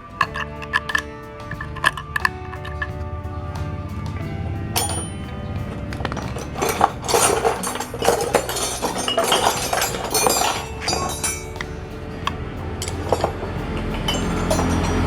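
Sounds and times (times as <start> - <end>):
metal tools clinking: 0.0 - 3.1, 4.0 - 15.0
background music: 0.0 - 15.0.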